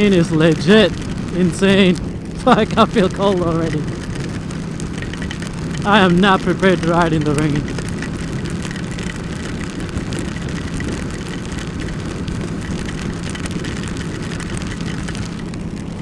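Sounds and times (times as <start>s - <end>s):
heavy rain hitting microphone: 0.0s - 16.0s
motorcycle engine running: 0.0s - 16.0s.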